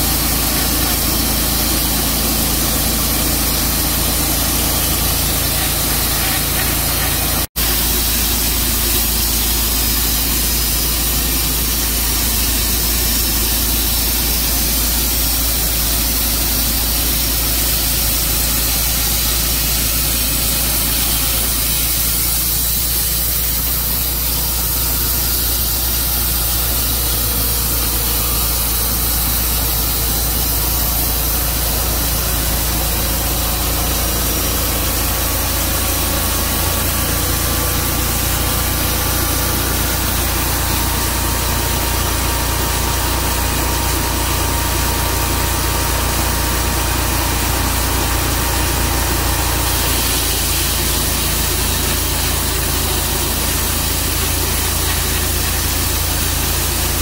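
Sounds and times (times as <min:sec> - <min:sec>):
saw hissing: 0:00.0 - 0:57.0
sawmill engine running: 0:00.0 - 0:57.0.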